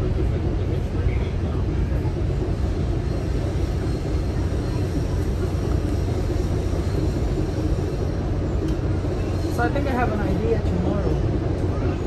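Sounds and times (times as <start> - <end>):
moving train rumble: 0.0 - 12.0.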